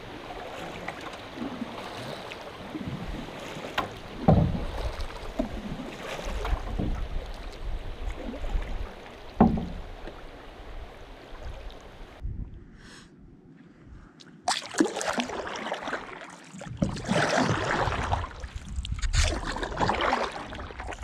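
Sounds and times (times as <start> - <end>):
water rushing around canoe: 0.0 - 12.2, 14.5 - 21.0.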